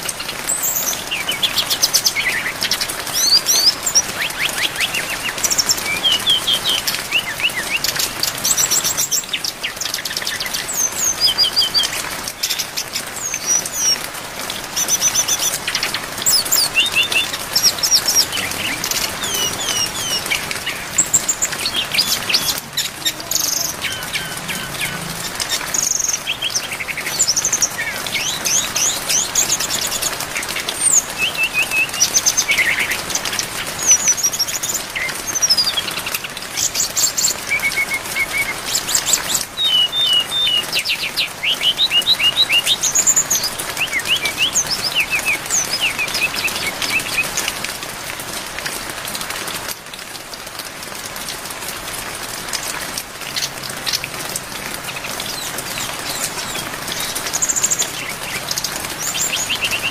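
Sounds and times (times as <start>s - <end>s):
rain hissing: 0.0s - 59.9s
bird singing whistles and trills: 0.5s - 14.0s, 14.8s - 33.1s, 33.8s - 47.4s, 55.2s - 59.9s.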